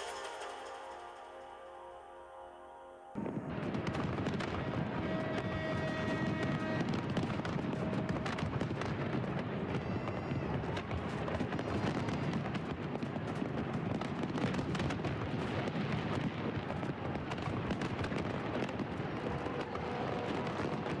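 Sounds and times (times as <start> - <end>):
fireworks crackling and popping: 0.0 - 1.8, 3.2 - 21.0.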